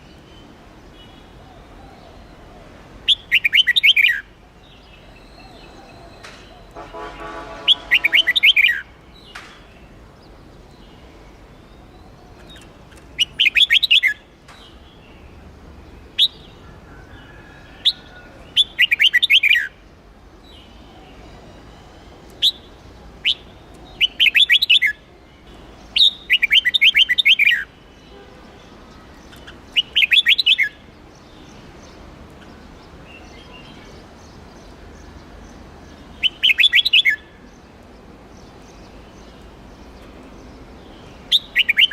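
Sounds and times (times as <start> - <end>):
bird singing falling phrases: 0.0 - 41.9.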